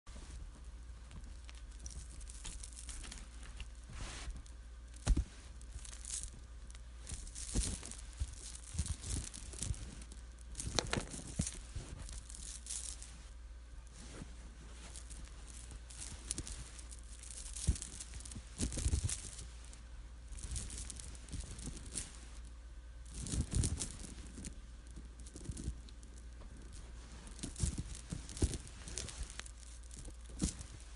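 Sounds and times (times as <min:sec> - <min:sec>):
steady low hum: 0:00.1 - 0:30.9
rosary beads clicking and rustling: 0:01.0 - 0:30.9.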